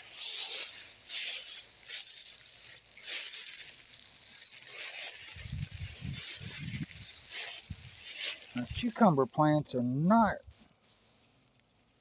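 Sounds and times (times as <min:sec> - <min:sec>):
high-pitched hiss: 0:00.0 - 0:12.0
rustling noises: 0:00.0 - 0:12.0.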